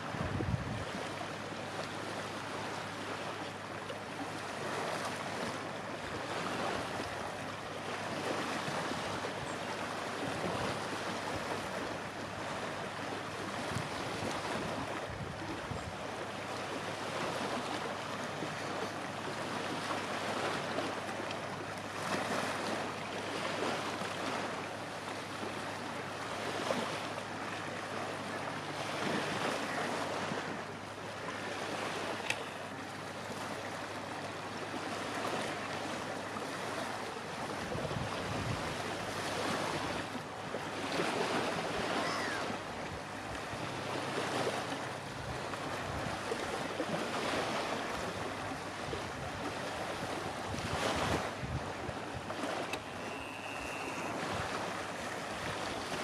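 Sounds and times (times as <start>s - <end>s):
small waves breaking on shore: 0.0s - 56.0s.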